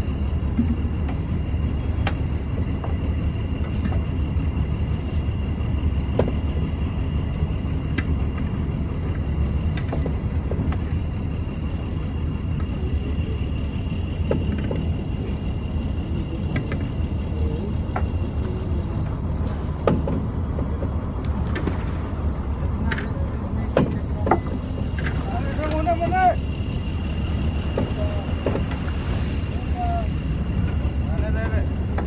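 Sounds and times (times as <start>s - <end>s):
boat diesel engine droning: 0.0s - 32.0s
faint steady whine: 0.0s - 32.0s.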